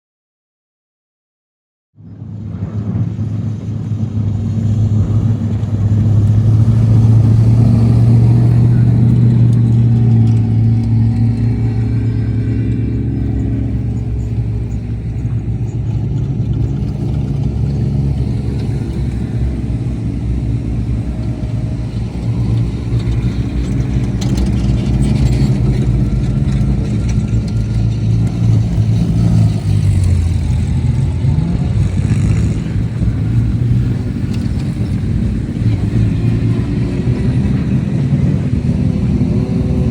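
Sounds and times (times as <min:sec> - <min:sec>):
race vehicle engine drone: 0:02.0 - 0:39.9.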